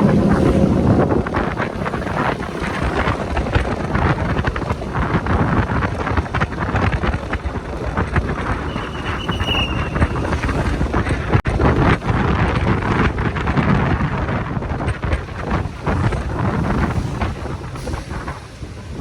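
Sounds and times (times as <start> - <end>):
motorcycle engine and road noise: 0.0 - 19.0
wind buffeting microphone: 0.0 - 19.0.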